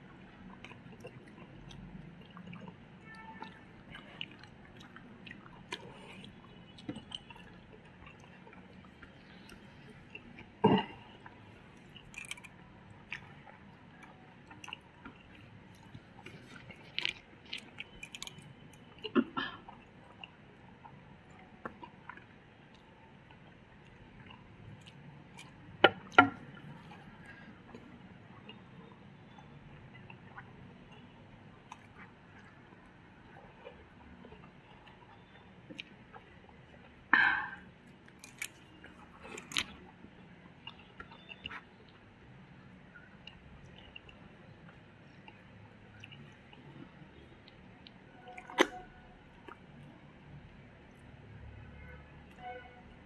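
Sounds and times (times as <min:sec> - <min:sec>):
people chewing and eating: 0:00.0 - 0:52.6.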